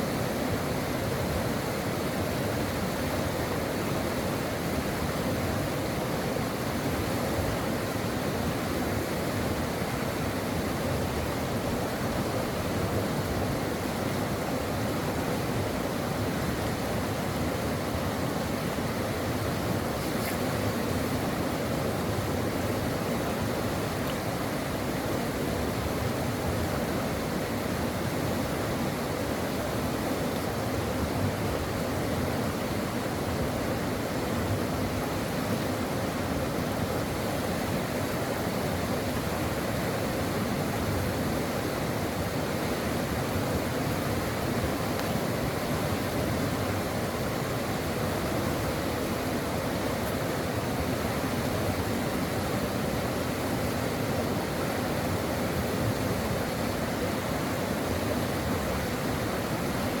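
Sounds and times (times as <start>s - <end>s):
brook water flowing over rocks: 0.0s - 60.0s.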